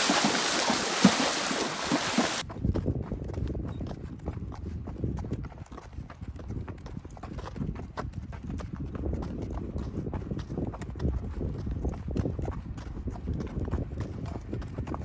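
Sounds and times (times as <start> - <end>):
horse hoofbeats on dirt road: 0.0 - 15.0.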